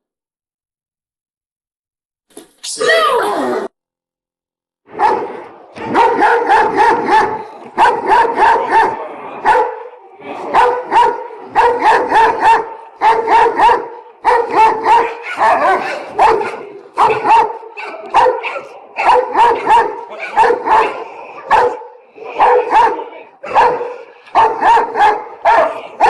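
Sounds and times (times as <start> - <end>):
dog barking angrily: 4.9 - 26.0.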